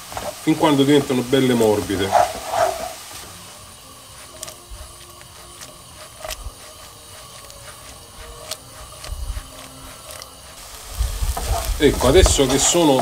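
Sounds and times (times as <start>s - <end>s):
faint sizzle in frying pan: 0.0s - 13.0s.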